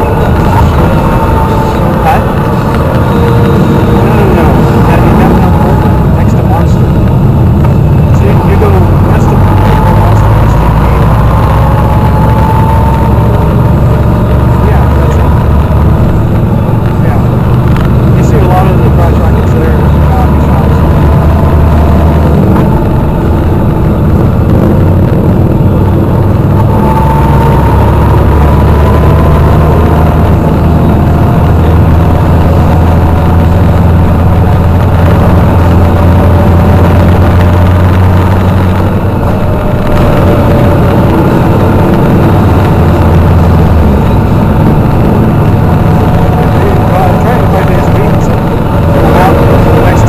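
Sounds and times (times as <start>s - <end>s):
engine note rising and falling: 0.0s - 50.0s
motorcycle engines droning: 0.0s - 50.0s.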